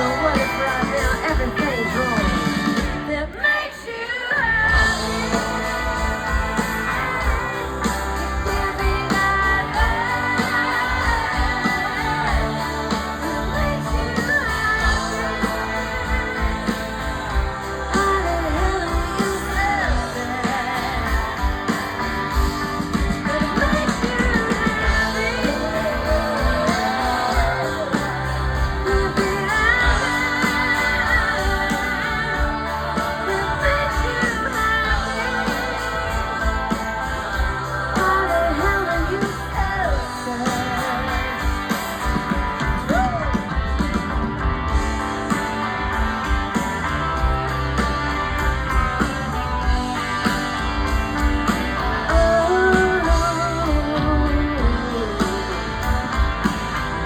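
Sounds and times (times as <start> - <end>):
person singing: 0.0 - 22.3, 23.0 - 43.5, 51.8 - 57.0
live rock band playing: 0.0 - 57.0.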